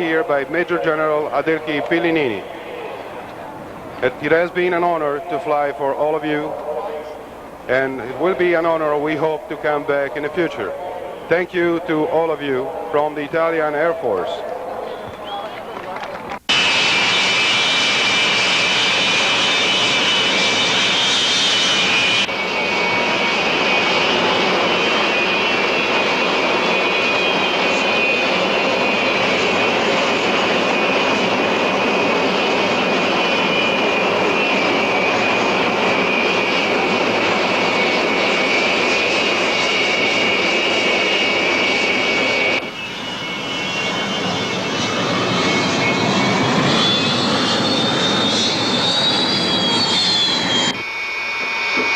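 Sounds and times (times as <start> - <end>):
jet engines whining: 0.0 - 51.9.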